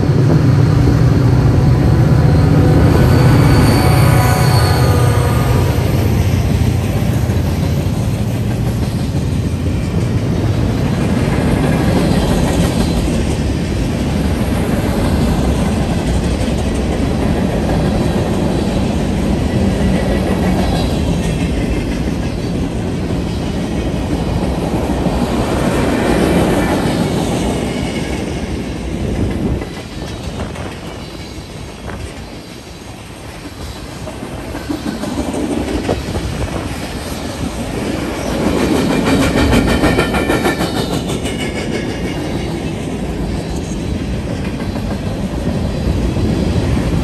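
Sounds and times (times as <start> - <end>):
diesel locomotive engine drone: 0.0 - 47.0
freight train cars clickety-clack: 0.0 - 47.0.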